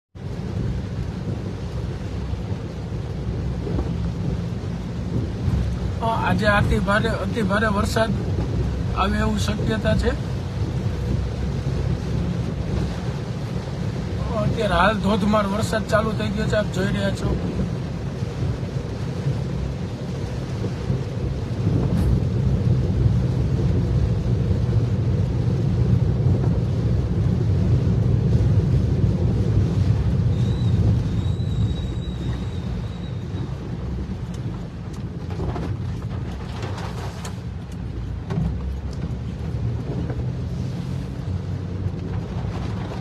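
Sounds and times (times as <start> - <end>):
car driving in heavy rain: 0.2 - 43.0
rain on windscreen: 0.2 - 43.0.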